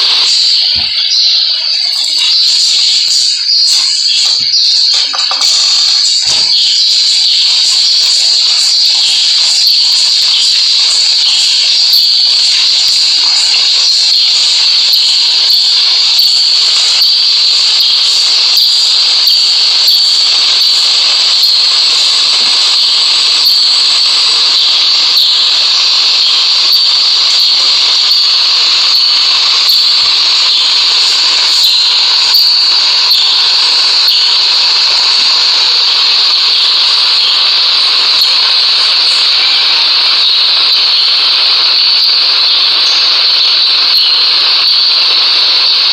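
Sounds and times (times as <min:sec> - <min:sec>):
ceiling fan hissing: 0:00.0 - 0:45.9.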